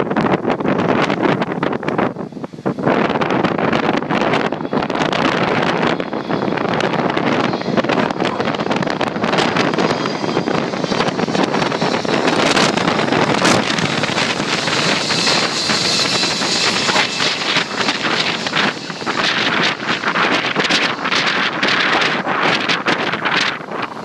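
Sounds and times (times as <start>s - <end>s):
steady rushing noise: 0.0s - 24.0s
wind buffeting microphone: 0.0s - 24.0s
thin high whine: 2.0s - 24.0s.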